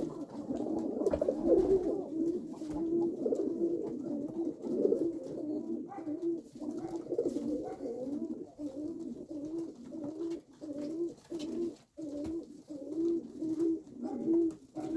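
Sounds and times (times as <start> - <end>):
pigeons cooing: 0.0 - 14.9.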